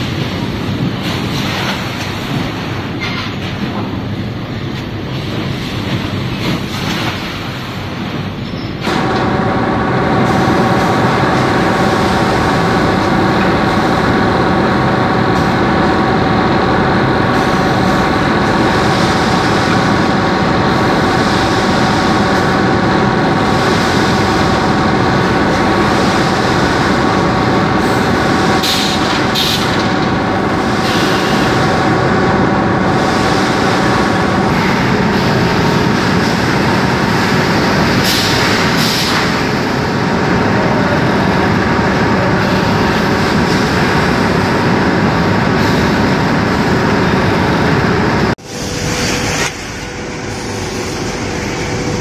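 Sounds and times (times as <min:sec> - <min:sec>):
bagging machine drone: 0:00.0 - 0:52.0.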